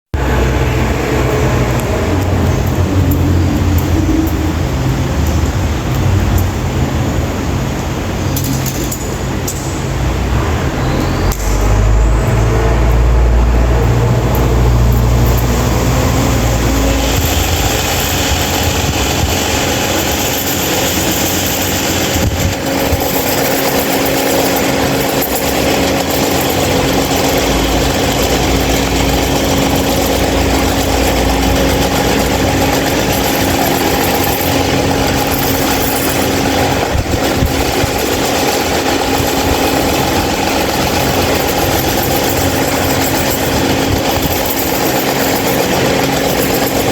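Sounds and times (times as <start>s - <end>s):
fan air rushing: 0.1s - 46.9s
fan motor hum: 0.2s - 46.9s.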